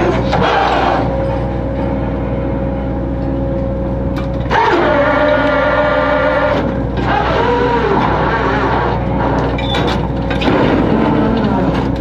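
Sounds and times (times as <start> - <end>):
boat engine and machinery drone: 0.0 - 12.0.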